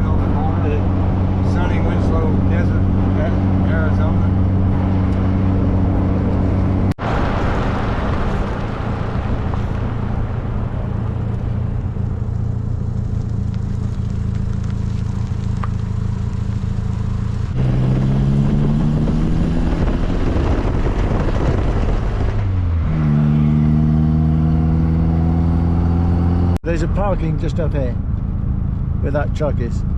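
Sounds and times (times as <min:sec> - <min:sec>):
car engine running: 0:00.0 - 0:29.9
road and wind noise: 0:00.0 - 0:29.9.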